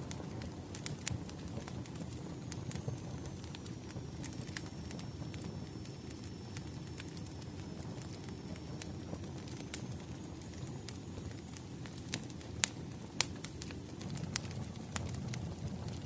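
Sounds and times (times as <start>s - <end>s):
burning logs rumbling: 0.0s - 16.0s
fire popping and snapping: 0.0s - 16.0s.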